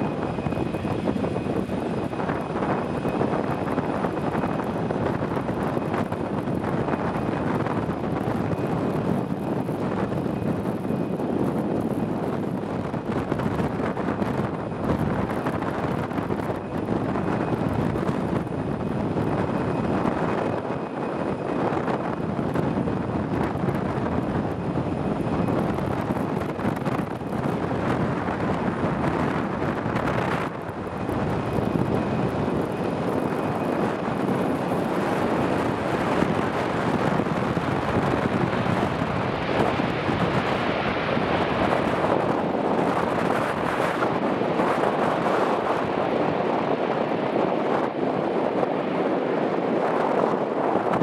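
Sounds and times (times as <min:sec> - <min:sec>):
jet engine noise: 0:00.0 - 0:51.0
wind buffeting microphone: 0:00.0 - 0:51.0.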